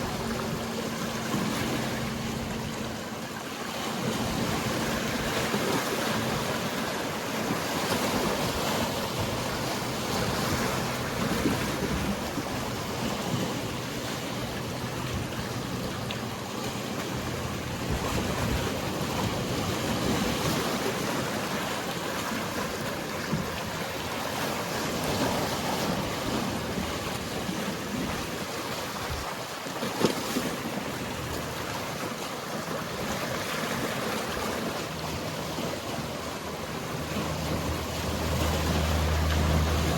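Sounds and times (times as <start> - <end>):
faint boat engine hum: 0.0 - 39.9
sea waves washing against shore: 0.0 - 39.9.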